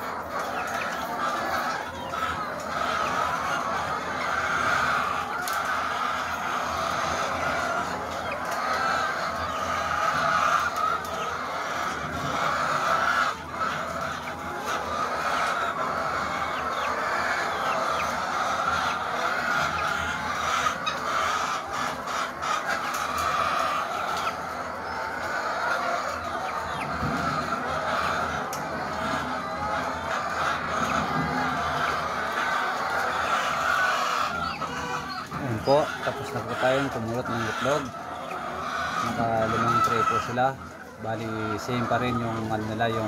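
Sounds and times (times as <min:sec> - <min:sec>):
hens clucking: 0:00.0 - 0:43.0.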